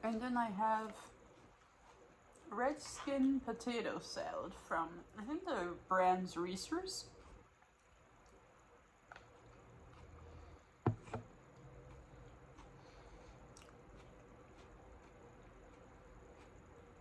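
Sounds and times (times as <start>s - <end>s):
faint chewing: 0.0s - 4.6s, 7.0s - 17.0s.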